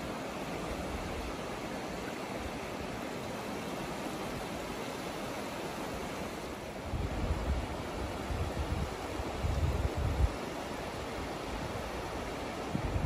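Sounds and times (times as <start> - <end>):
gentle sea waves on shore: 0.0 - 13.0.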